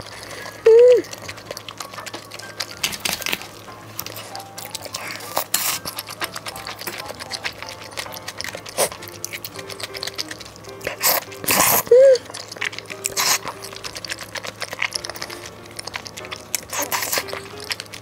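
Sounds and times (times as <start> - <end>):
chewing with crackles: 0.0 - 18.0
soft background music: 0.0 - 18.0
utensils clinking: 0.0 - 18.0.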